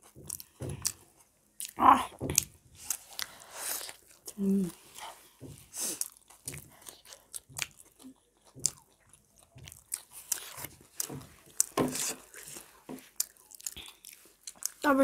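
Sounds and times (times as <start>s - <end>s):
people chewing and crunching: 0.0s - 15.0s.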